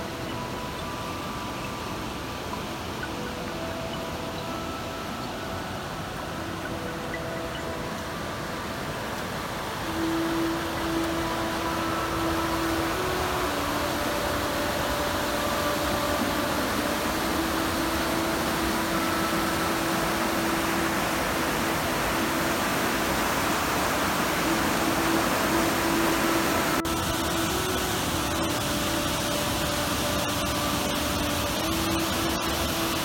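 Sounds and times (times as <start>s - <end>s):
river rushing over boulders: 0.0s - 33.0s.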